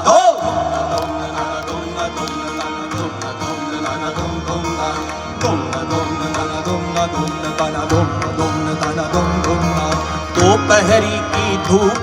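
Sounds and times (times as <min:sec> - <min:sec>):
live folk ensemble playing: 0:00.0 - 0:12.0.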